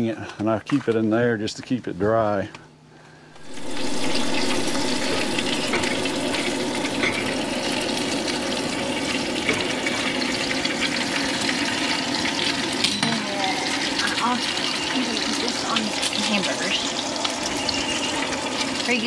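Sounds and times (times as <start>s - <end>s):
bacon sizzling and crackling: 3.4s - 19.0s.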